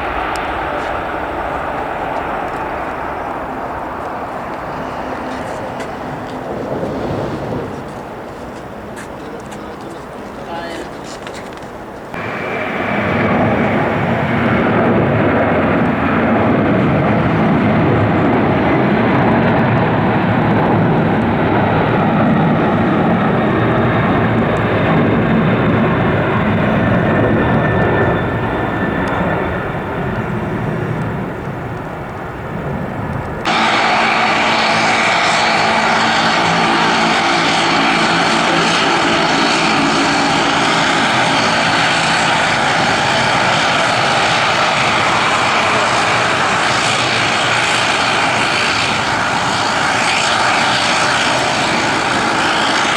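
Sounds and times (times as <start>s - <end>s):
aircraft engines hissing and whining: 0.0s - 52.9s
aircraft engines running loud: 0.0s - 52.9s.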